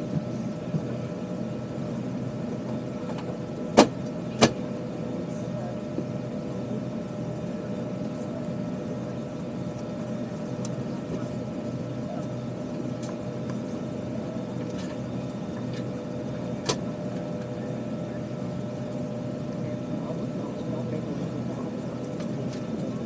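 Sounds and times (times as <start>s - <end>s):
airplane cabin hum: 0.0s - 23.0s.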